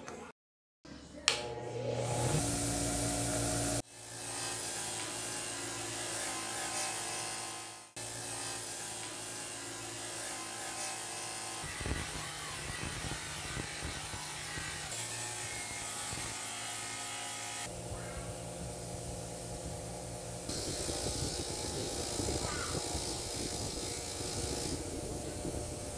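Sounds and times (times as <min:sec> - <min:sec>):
bench grinder motor humming: 0:01.3 - 0:17.8, 0:20.4 - 0:25.9.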